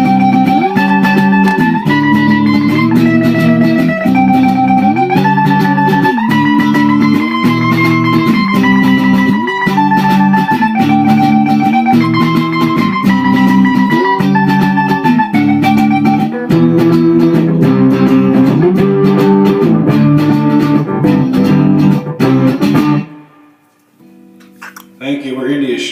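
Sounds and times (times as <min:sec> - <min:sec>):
rock song on guitars: 0:00.0 - 0:24.9.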